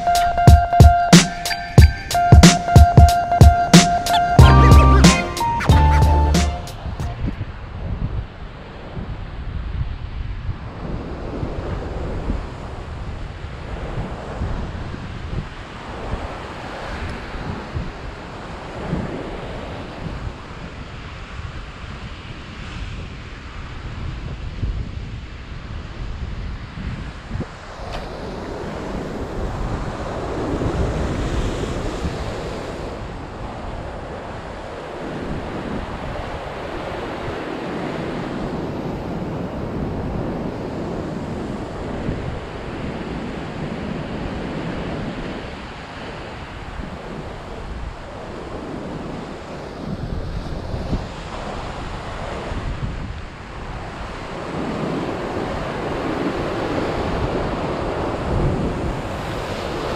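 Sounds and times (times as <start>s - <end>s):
wind buffeting microphone: 6.8s - 59.9s.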